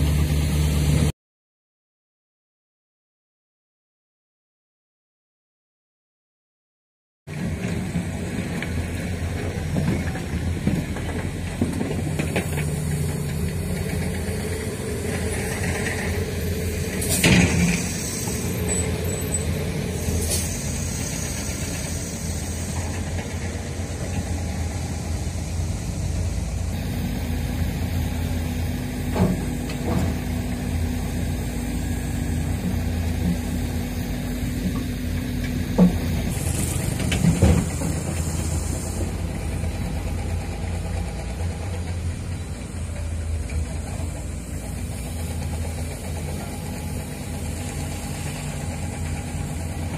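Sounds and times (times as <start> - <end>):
dump truck diesel engines idling: 7.3 - 49.9.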